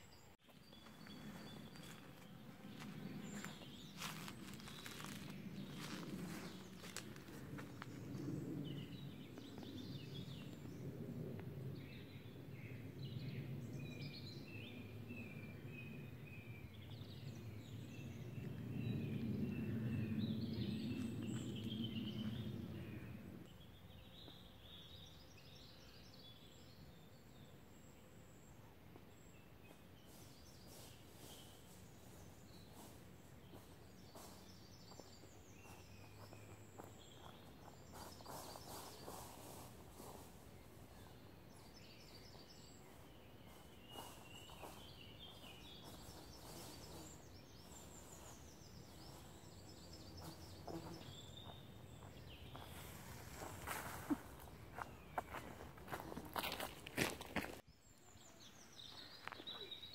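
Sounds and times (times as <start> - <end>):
small birds singing and chirping: 0.0 - 11.0, 11.7 - 59.9.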